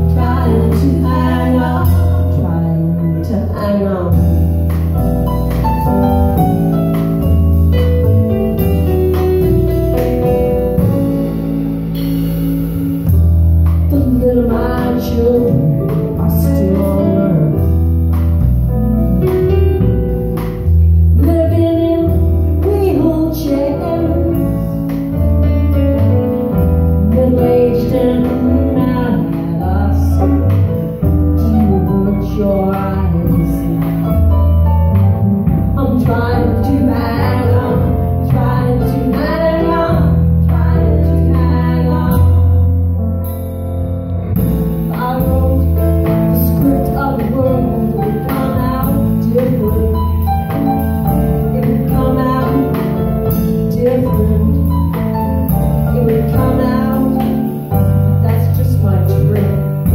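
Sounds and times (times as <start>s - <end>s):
bass line: 0.0s - 59.9s
drum kit: 0.0s - 59.9s
guitar: 0.0s - 59.9s
stage piano: 0.0s - 59.9s.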